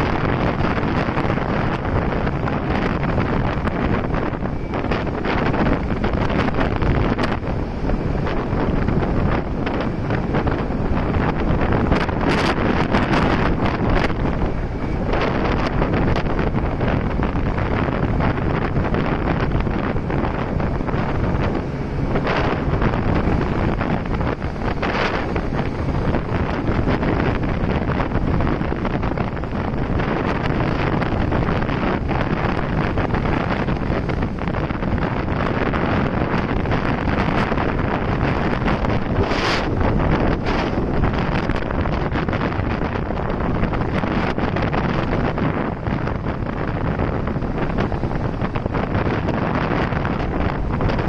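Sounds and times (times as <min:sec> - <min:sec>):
road noise: 0:00.0 - 0:51.0
wind buffeting microphone: 0:00.0 - 0:51.0.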